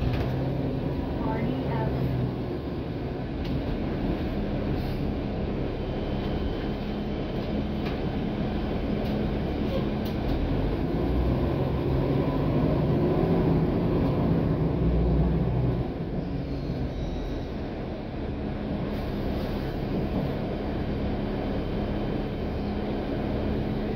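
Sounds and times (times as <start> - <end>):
bus engine drone: 0.0 - 23.9
road noise: 0.0 - 23.9.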